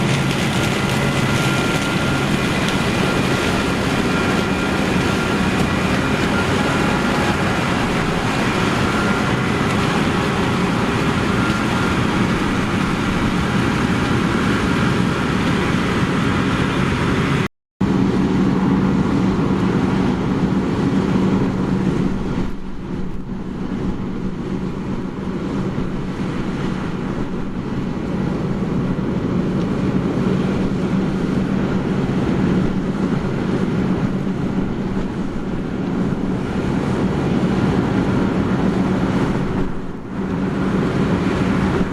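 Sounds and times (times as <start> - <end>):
heavy machinery engines running: 0.0 - 41.9.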